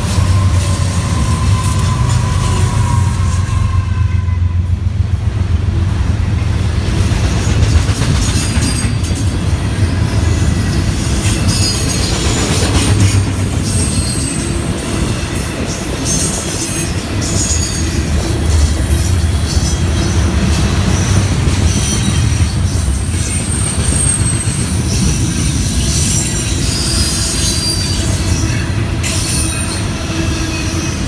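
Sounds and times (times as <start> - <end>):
wheel squeals: 0.0 - 4.6, 10.2 - 31.0
train wheels rumbling on rails: 0.0 - 31.0.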